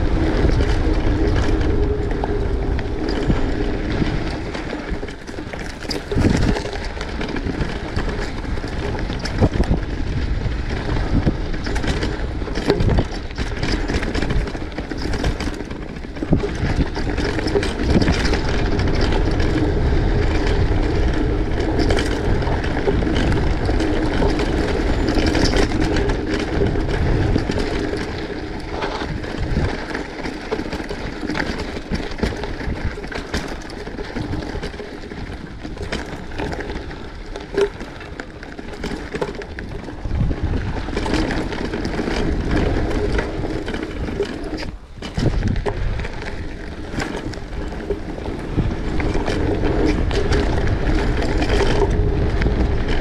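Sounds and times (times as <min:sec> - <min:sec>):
knocks and rattles: 0:00.0 - 0:53.0
vehicle wheels rumbling on rough track: 0:00.0 - 0:53.0.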